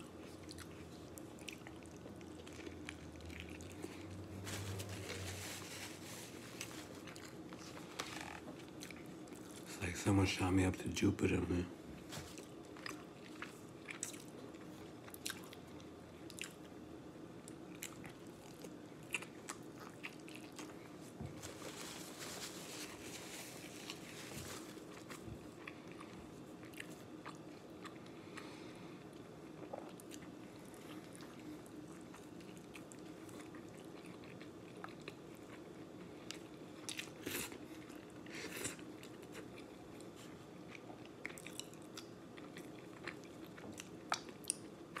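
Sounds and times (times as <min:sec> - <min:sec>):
person chewing food: 0:00.0 - 0:04.7, 0:05.7 - 0:09.7, 0:12.3 - 0:16.8, 0:17.4 - 0:45.0
faint steady hum: 0:00.0 - 0:45.0.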